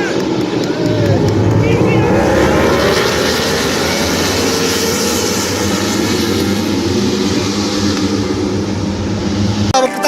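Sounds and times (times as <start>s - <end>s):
motorcycle engines at high revs: 0.0s - 9.8s.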